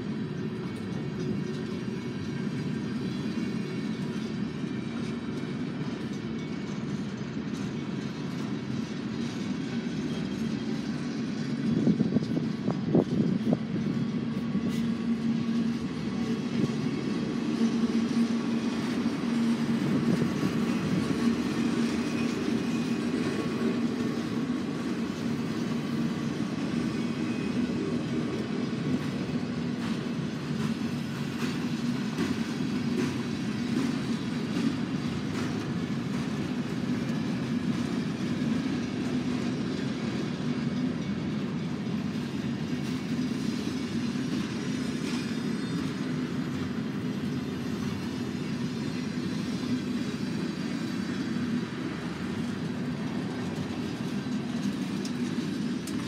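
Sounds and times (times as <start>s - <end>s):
train wheels rumbling on rails: 0.0s - 56.0s
light clicks of rails: 5.0s - 56.0s.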